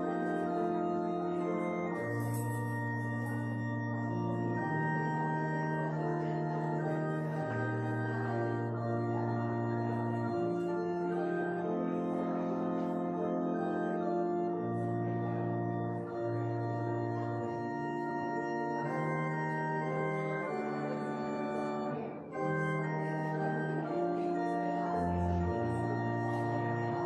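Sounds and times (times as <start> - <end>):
organ playing sustained chords: 0.0 - 27.0.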